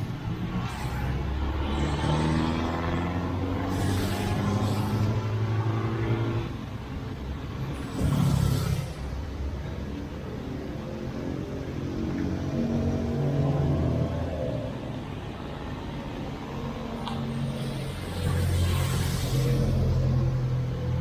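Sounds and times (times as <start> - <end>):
traffic engines running: 0.0 - 21.0
vehicle passing close: 0.0 - 21.0.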